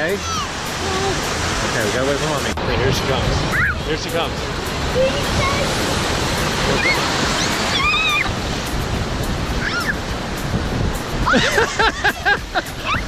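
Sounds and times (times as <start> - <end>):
ocean surf on beach: 0.0 - 13.0.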